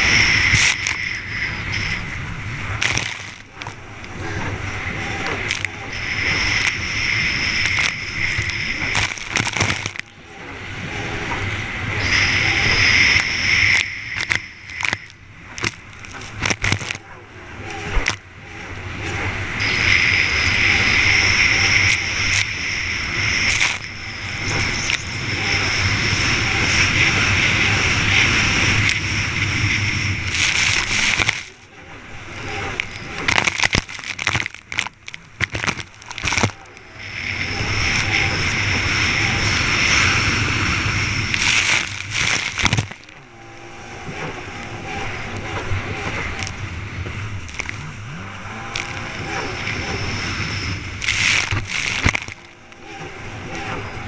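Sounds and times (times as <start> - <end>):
jet ski engine drone: 0.0 - 54.0
wind: 0.0 - 54.0.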